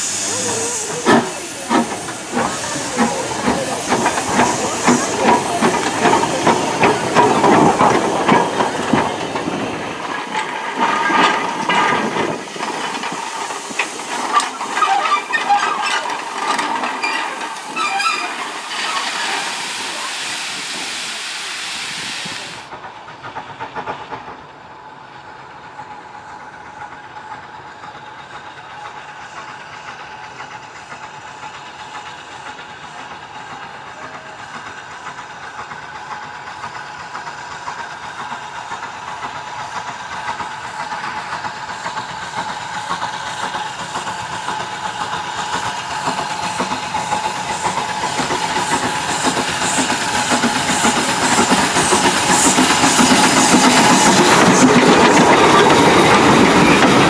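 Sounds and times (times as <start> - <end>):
clanks and rail clicks: 0.0 - 20.8, 21.9 - 57.0
steam hissing: 0.0 - 57.0
steam locomotive exhaust beats: 0.0 - 57.0.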